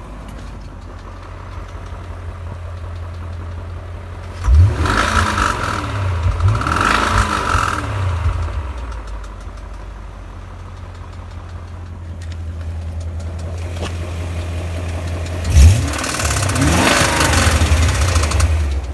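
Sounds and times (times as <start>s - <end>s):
engine knocking: 0.0s - 18.9s
car engine revving: 1.4s - 9.8s, 12.0s - 18.9s.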